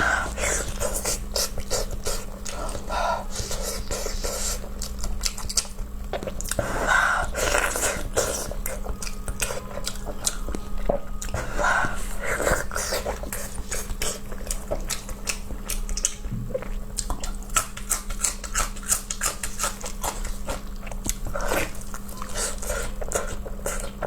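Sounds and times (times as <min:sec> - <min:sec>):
wet chewing and lip-smacking: 0:00.0 - 0:24.0.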